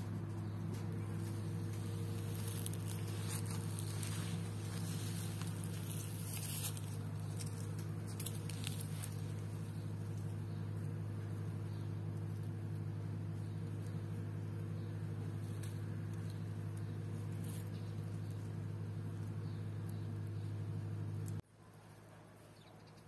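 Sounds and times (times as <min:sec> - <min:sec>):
paws rustling dry leaves: 0:00.0 - 0:19.4
steady low hum: 0:00.0 - 0:23.0.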